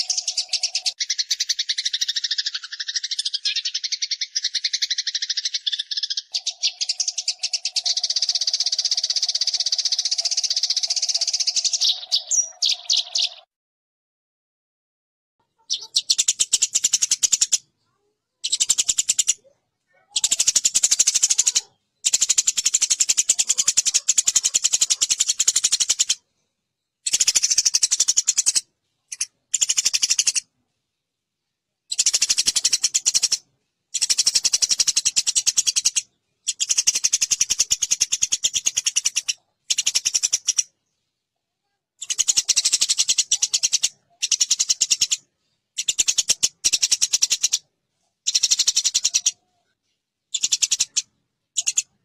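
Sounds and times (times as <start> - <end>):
sparrows chattering harshly: 0.0 - 13.5, 15.5 - 26.3, 26.9 - 30.5, 31.8 - 41.3, 42.0 - 52.0.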